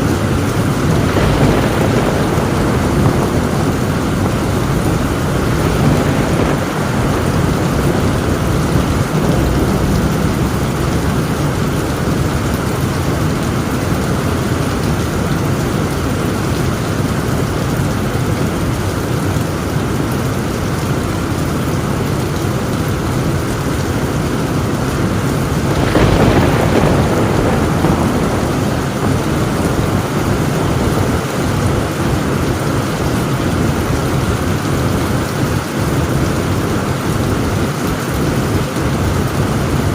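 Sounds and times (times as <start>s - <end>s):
thunder clap: 0.0s - 20.1s, 21.9s - 39.9s
rain drumming on a tin roof: 0.0s - 39.9s.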